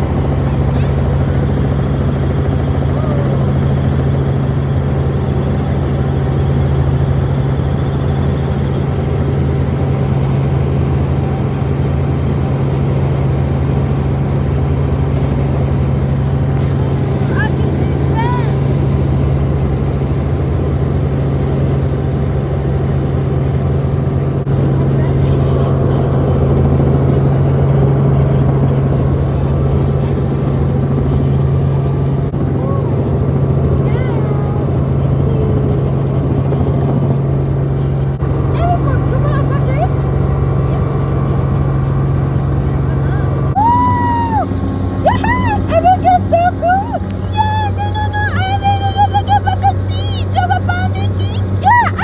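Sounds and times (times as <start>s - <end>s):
helicopter engine and rotor drone: 0.0s - 52.0s.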